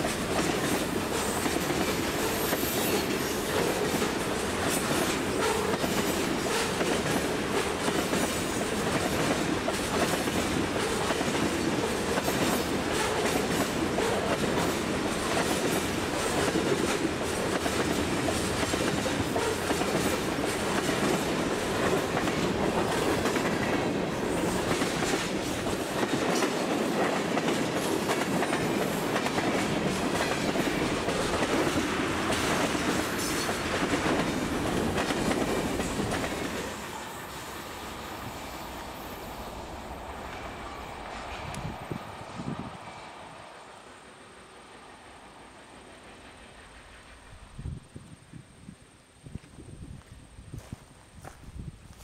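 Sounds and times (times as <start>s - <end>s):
freight train cars rolling past: 0.0s - 48.4s.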